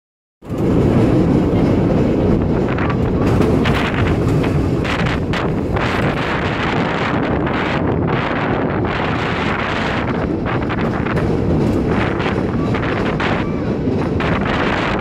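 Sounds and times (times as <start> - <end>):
cable car rumbling on rails: 0.4 - 15.0
wind buffeting microphone: 0.4 - 15.0.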